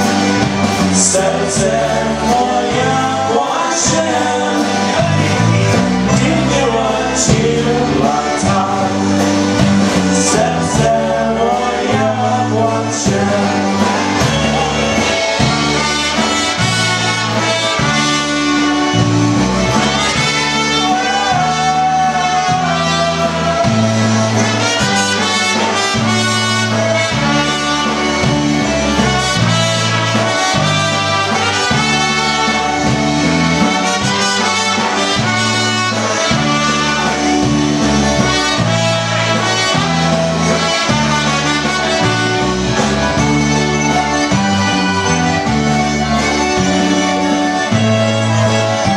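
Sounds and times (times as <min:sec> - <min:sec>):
horns playing melody: 0:00.0 - 0:48.9
polka band playing a waltz: 0:00.0 - 0:48.9.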